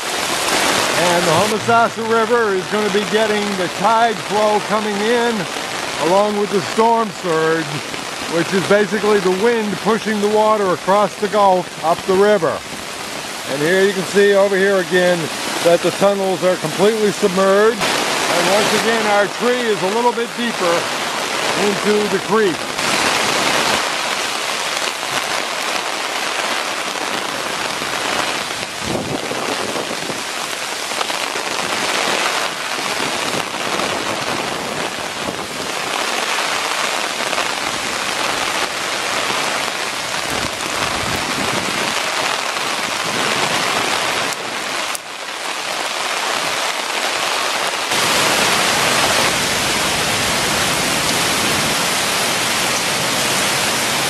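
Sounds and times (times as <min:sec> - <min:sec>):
heavy rain on water: 0:00.0 - 0:54.0.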